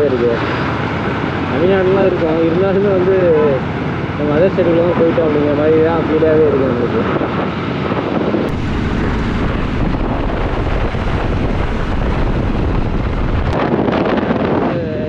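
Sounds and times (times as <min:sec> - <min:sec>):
motorcycle road noise: 0:00.0 - 0:15.0
wind buffeting microphone: 0:00.0 - 0:15.0.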